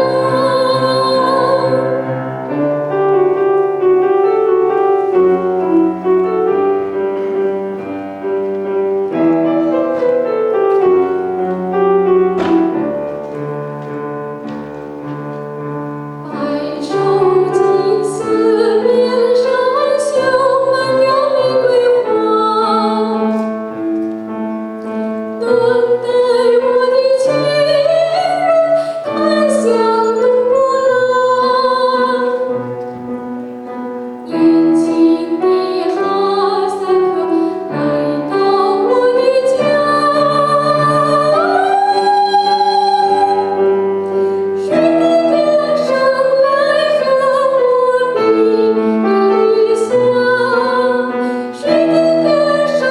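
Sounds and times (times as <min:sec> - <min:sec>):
piano accompaniment: 0:00.0 - 0:52.9.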